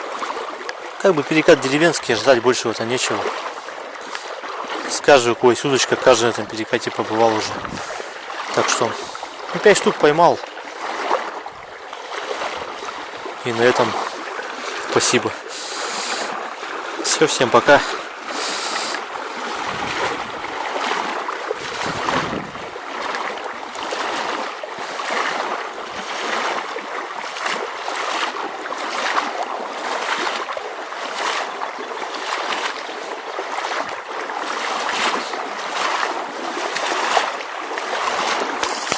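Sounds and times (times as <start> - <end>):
water babbling over stones: 0.0 - 38.9.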